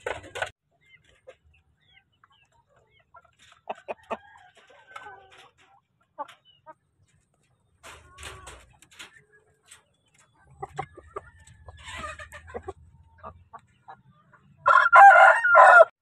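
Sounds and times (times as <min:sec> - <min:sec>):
chickens chirping: 0:00.0 - 0:15.8
chickens clucking: 0:00.0 - 0:15.8.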